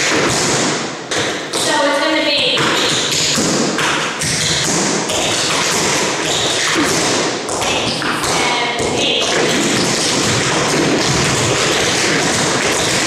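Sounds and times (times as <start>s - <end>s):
tap shoes on wooden floor: 0.0s - 13.0s.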